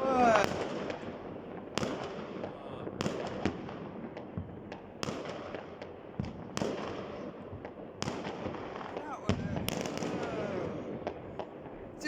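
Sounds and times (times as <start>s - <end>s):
distant fireworks crackling: 0.0s - 12.0s
sharp firework bangs: 0.0s - 12.0s.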